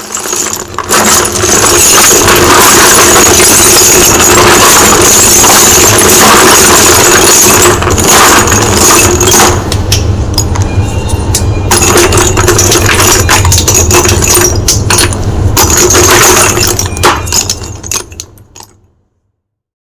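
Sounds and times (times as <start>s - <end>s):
steady low hum: 0.0s - 19.3s.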